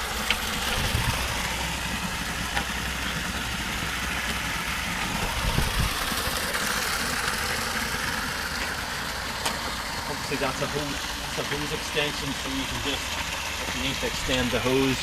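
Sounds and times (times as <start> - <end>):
engine idling with low hum: 0.0 - 15.0.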